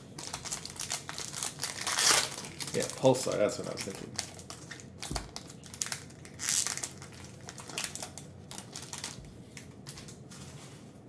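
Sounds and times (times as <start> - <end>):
foil wrapper crinkling: 0.1 - 10.4.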